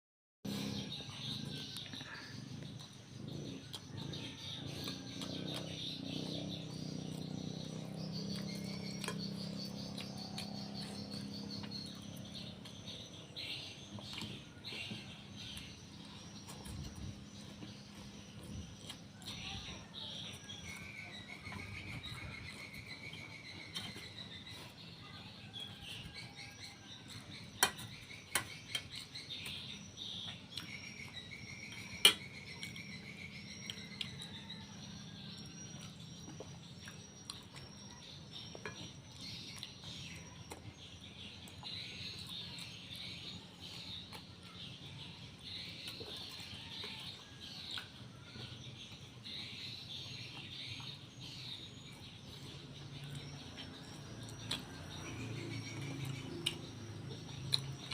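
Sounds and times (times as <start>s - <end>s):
insects and birds chirping: 0.5s - 57.9s.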